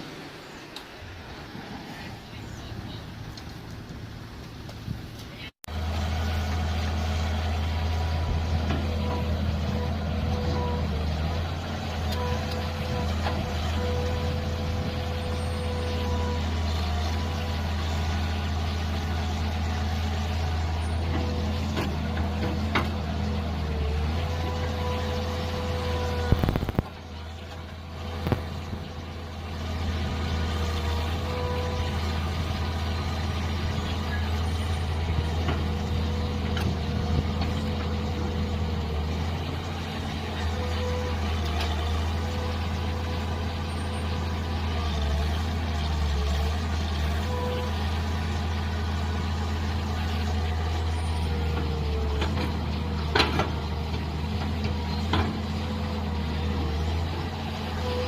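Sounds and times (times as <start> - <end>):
diesel engine running: 0.0 - 58.0
hydraulic whine: 5.7 - 58.0.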